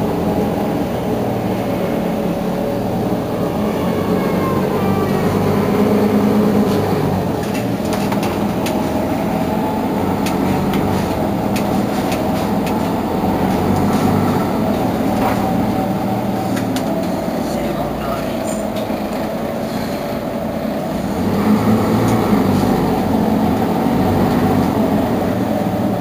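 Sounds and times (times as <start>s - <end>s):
bus engine idling: 0.0s - 26.0s.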